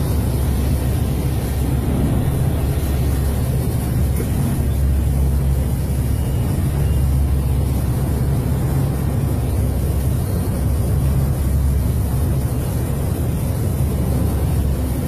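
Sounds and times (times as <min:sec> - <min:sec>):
aircraft engines droning: 0:00.0 - 0:15.0
rushing air: 0:00.0 - 0:15.0.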